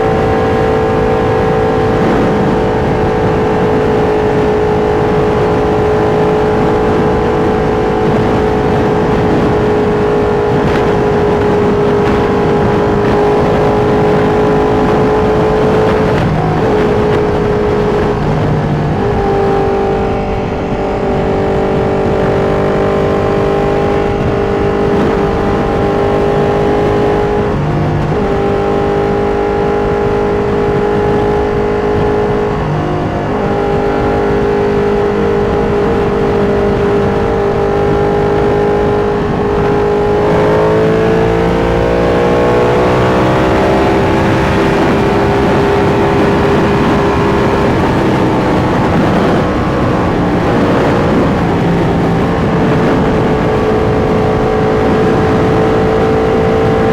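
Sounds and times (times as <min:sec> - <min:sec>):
motorcycle engine at highway speed: 0:00.0 - 0:56.9.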